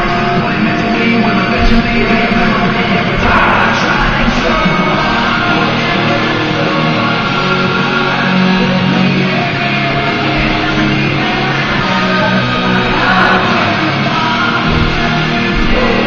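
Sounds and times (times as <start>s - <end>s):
rock music: 0.0s - 16.0s.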